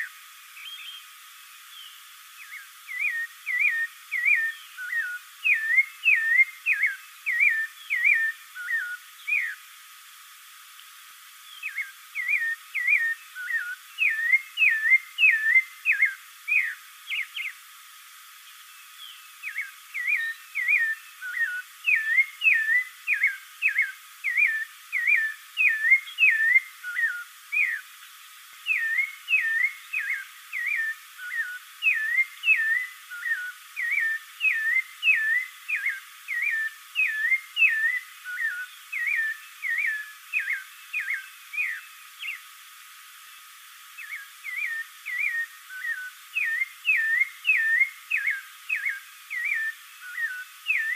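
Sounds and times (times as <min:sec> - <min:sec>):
thrush singing whistled notes: 0:00.0 - 0:09.8, 0:11.4 - 0:17.7, 0:18.4 - 0:28.0, 0:28.6 - 0:42.6, 0:43.2 - 0:50.9.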